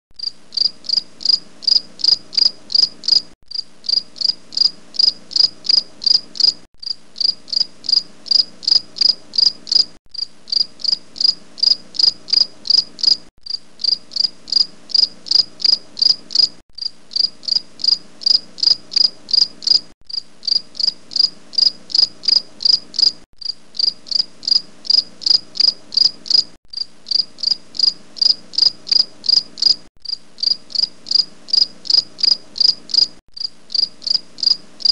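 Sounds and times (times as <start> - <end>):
crickets chirping: 0.2 - 34.9.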